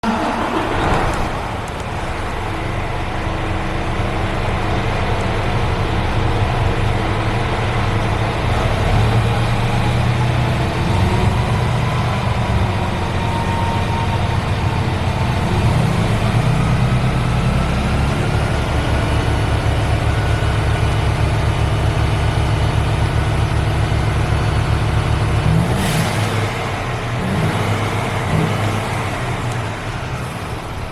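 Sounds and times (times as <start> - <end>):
diesel truck engine idling: 0.0 - 30.9.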